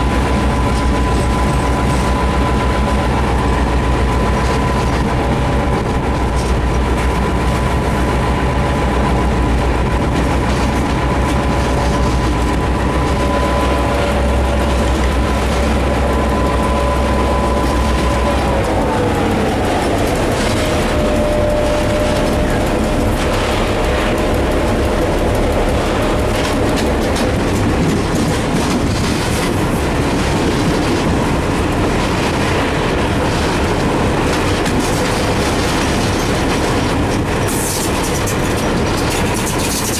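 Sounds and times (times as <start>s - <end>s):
diesel locomotive engine rumble: 0.0s - 39.9s
engine whine: 0.0s - 39.9s
wheels clicking over rail joints: 0.0s - 39.9s.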